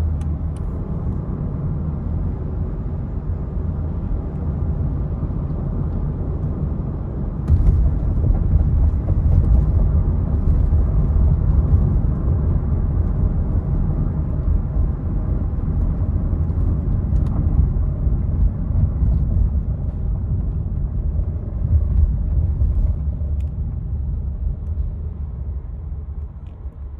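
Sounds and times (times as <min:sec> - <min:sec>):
van engine rumbling: 0:00.0 - 0:26.9.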